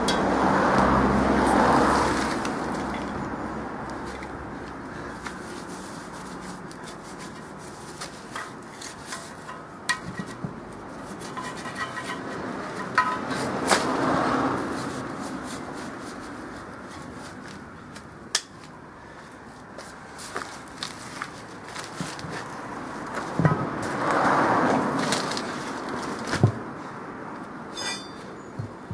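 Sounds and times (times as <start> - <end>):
traffic noise: 0.0 - 28.9
knocks and scrapes handling tyre: 3.9 - 18.8, 19.7 - 28.9.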